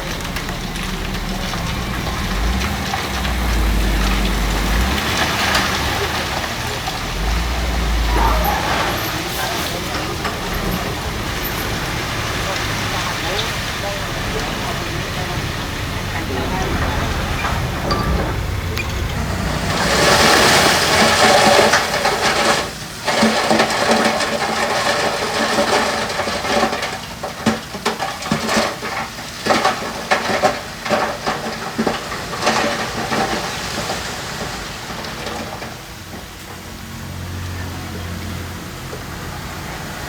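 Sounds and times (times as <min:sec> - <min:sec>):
loose stone sliding and clattering: 0:00.0 - 0:36.4
diesel engine running: 0:00.0 - 0:40.0.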